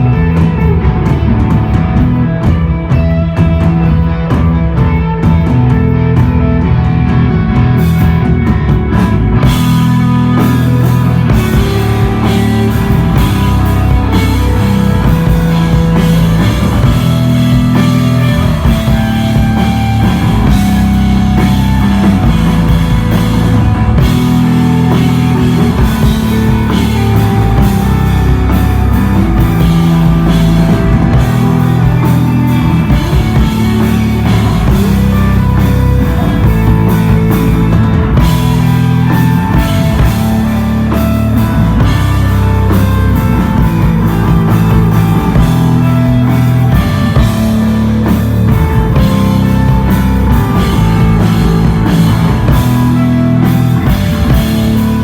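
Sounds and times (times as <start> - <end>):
bass guitar held notes: 0.0 - 55.0
drum kit with cymbals: 0.0 - 55.0
electric guitar: 0.0 - 55.0.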